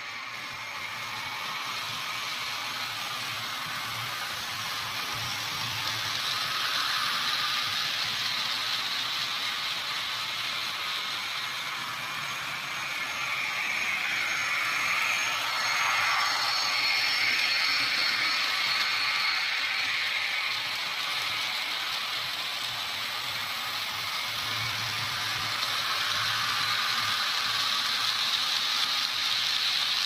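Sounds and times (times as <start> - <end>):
whir of small electric motors: 0.0 - 30.0.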